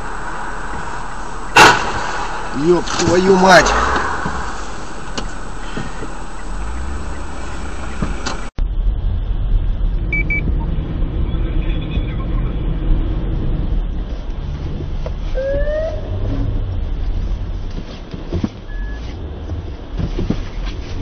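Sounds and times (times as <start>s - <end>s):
car engine and tyre noise: 0.0s - 21.0s
rough low rumble: 0.0s - 21.0s.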